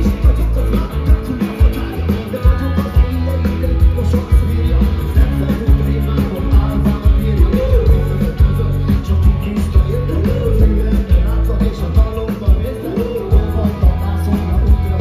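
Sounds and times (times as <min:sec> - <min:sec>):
drums keeping a steady beat: 0:00.0 - 0:15.0
electric guitar: 0:00.0 - 0:15.0
live rock band playing: 0:00.0 - 0:15.0
man singing into a microphone: 0:00.0 - 0:15.0.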